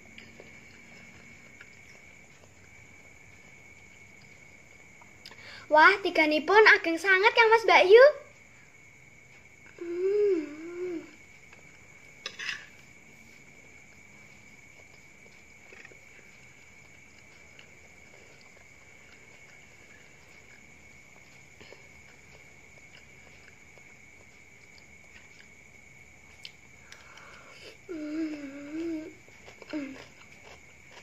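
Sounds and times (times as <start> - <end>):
faint high-pitched hum: 0.0 - 31.0.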